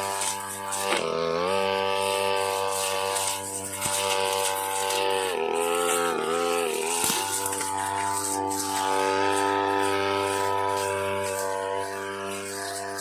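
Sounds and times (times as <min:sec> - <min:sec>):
brush cutter engine buzzing: 0:00.0 - 0:13.0.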